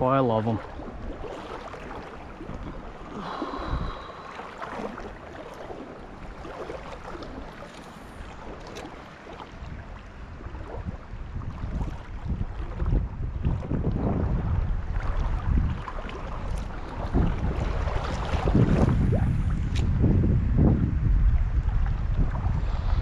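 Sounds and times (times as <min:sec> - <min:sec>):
stream water running: 0:00.0 - 0:20.3
wind buffeting microphone: 0:00.0 - 0:23.0.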